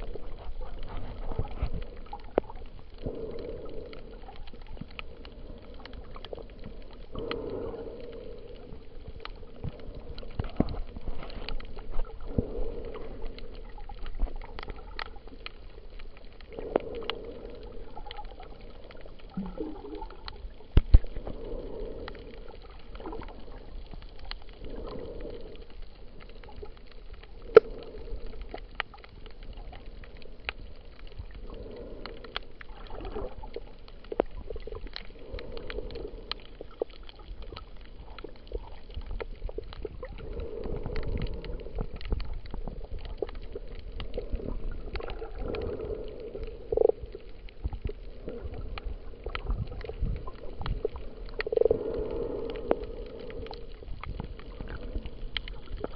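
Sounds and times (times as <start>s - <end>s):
muffled underwater gurgling: 0.0s - 55.9s
underwater clicks and crackles: 0.0s - 55.9s.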